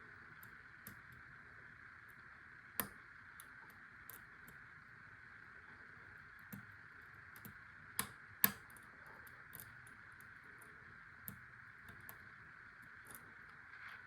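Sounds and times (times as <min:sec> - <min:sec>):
steady faint hiss: 0:00.0 - 0:14.0.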